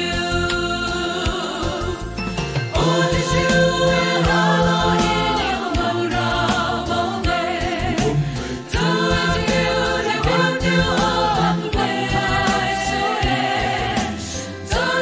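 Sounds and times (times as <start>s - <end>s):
choir singing gospel in harmony: 0.0s - 15.0s.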